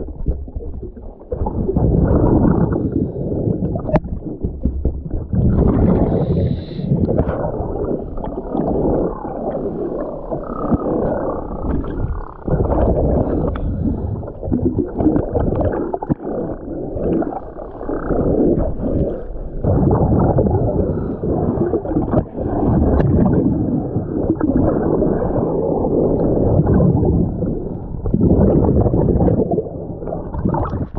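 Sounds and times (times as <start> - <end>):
scuba diver breathing underwater: 1.3 - 4.7, 5.4 - 30.9.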